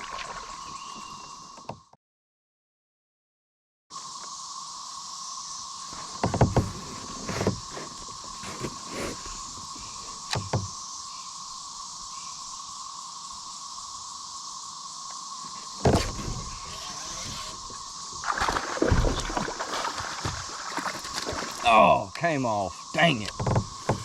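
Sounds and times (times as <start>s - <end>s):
insect drone: 0.0s - 2.0s, 3.9s - 24.0s.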